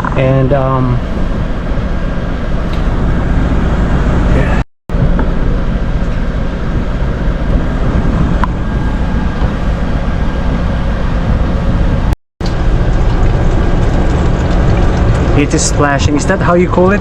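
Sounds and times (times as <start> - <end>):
truck engine idling: 0.2 - 17.0.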